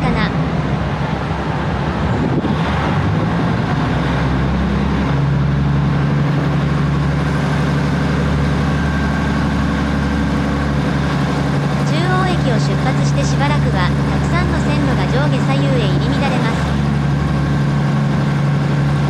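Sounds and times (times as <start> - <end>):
diesel railcar engine drone: 0.0 - 19.0.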